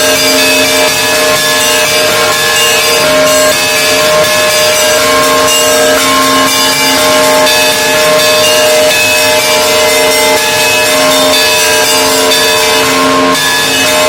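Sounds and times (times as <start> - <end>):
deep bells humming: 0.0 - 14.0
higher bells ringing: 0.0 - 14.0.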